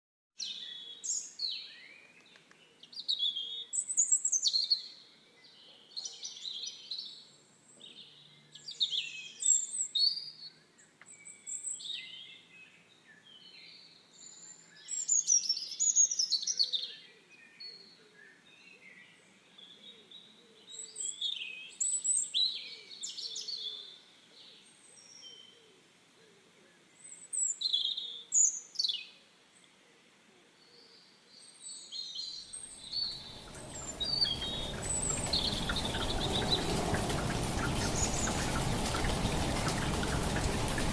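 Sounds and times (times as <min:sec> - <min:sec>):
songbirds chirping and warbling: 0:00.4 - 0:40.9.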